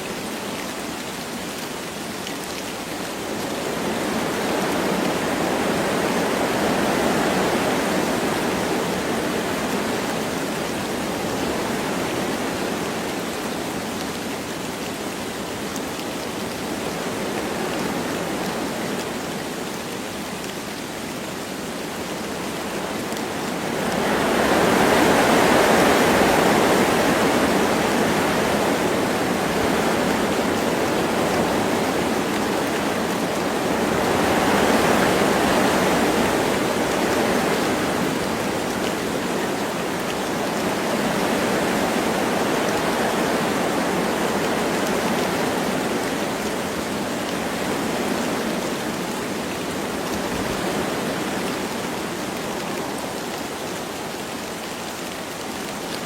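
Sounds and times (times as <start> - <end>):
light rain: 0.0 - 56.0
wind blowing through trees: 0.0 - 56.0.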